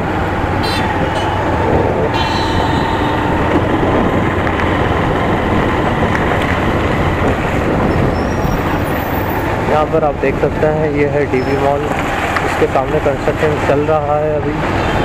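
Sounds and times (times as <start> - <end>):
motorcycle engine: 0.0 - 15.0
road noise: 0.0 - 15.0.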